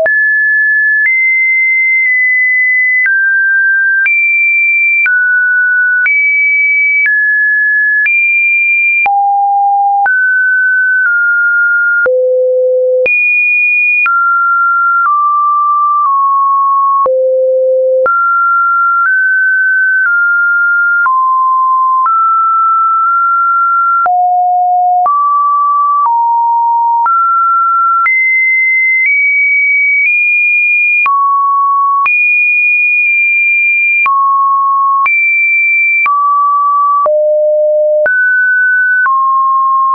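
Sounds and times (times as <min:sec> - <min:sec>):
electronic sine-wave beeps: 0:00.0 - 0:39.9.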